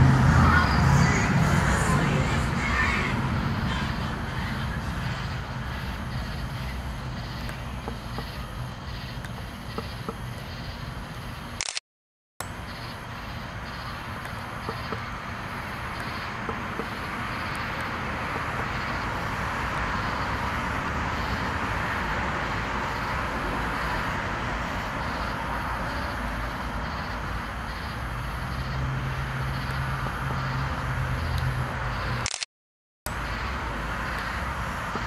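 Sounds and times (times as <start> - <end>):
steady background noise: 0.0 - 11.8, 12.4 - 32.4, 33.1 - 35.0.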